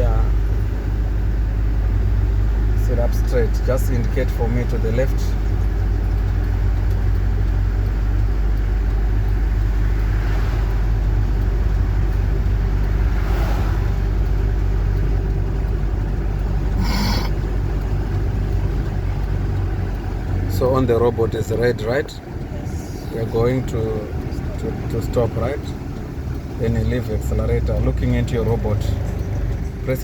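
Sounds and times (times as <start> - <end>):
road noise: 0.0 - 30.0
truck engine drone: 0.0 - 30.0.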